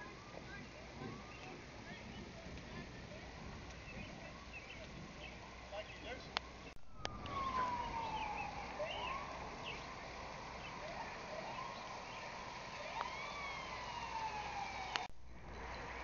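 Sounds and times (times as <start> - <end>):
distant siren wailing: 0.0 - 16.0.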